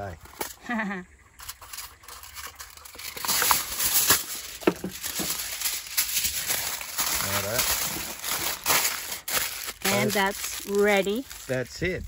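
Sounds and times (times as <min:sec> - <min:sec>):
aluminium foil crinkling: 0:01.4 - 0:11.8.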